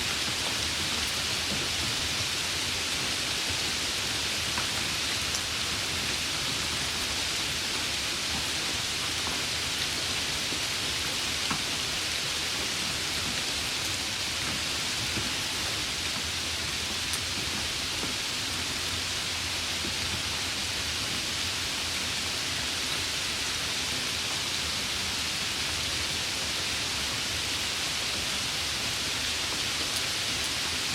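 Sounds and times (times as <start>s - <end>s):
steady rain hiss: 0.0s - 30.9s.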